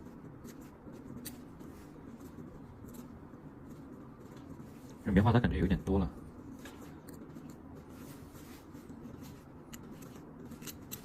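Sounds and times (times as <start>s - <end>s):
faint scratching: 0.0s - 11.0s
low room hum: 0.0s - 11.0s.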